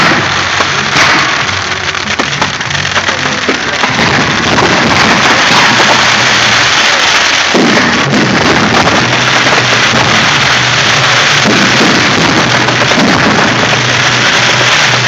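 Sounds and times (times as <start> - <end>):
fireworks crackling: 0.0 - 15.0
music playing: 0.0 - 15.0.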